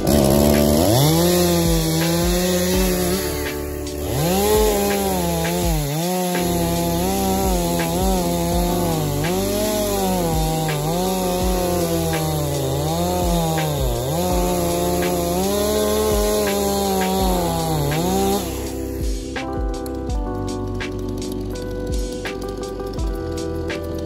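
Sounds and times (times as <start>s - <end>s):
chainsaw cutting wood: 0.0s - 24.0s.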